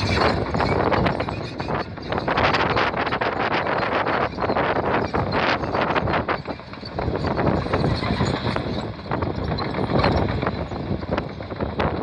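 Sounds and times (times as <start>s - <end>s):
diesel engine running: 0.0s - 12.0s
steel tracks clanking: 0.0s - 12.0s.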